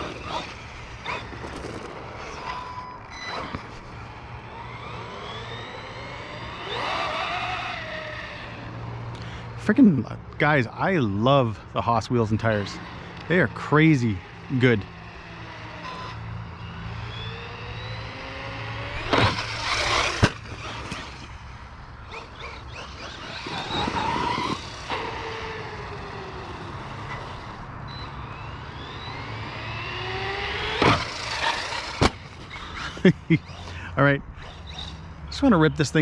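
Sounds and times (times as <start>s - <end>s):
toy truck motor whining: 0.0s - 9.6s, 12.3s - 35.3s
tire noise on ground: 0.0s - 36.0s.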